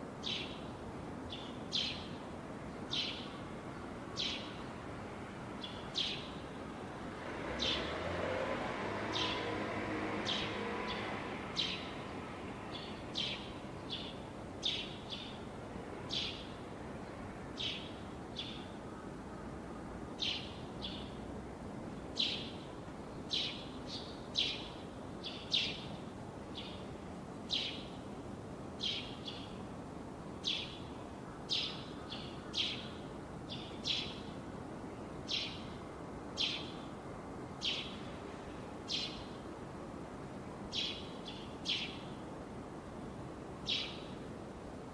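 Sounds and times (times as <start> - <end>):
background hiss: 0.0 - 44.9.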